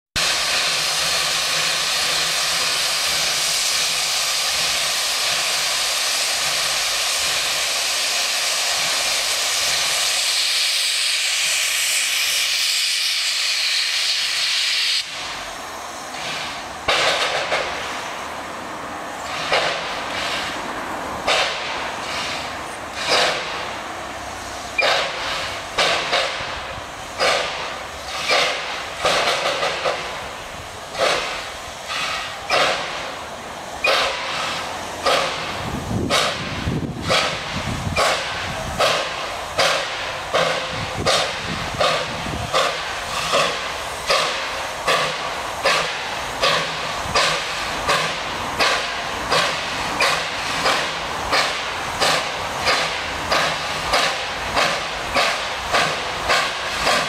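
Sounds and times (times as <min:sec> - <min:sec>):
steam hissing: 0:00.2 - 0:57.0
steam locomotive exhaust beats: 0:00.2 - 0:57.0.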